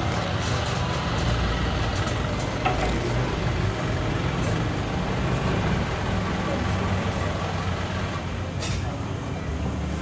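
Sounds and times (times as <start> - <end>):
road traffic engine noise: 0.0 - 10.0.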